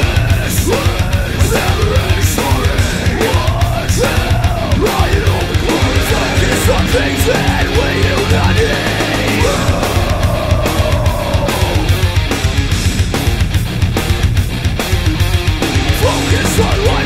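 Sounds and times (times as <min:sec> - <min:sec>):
loud heavy metal music: 0:00.0 - 0:17.0.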